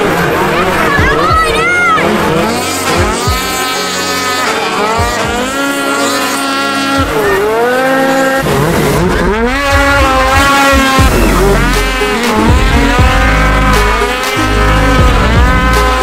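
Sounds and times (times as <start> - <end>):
snowmobile engines revving: 0.0 - 16.0.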